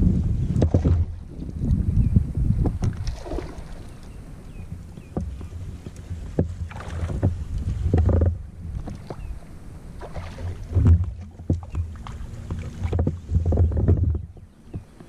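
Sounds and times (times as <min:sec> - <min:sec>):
water slapping hull: 0:00.0 - 0:02.0, 0:02.6 - 0:15.0
wind buffeting: 0:00.0 - 0:15.0.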